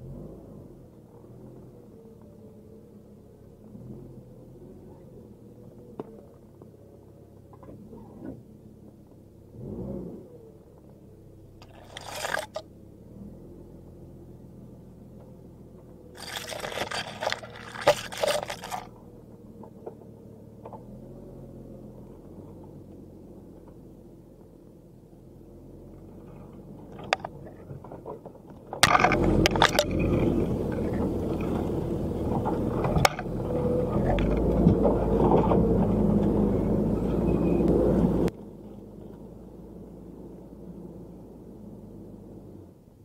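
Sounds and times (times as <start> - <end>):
car engine running: 0.0 - 43.0.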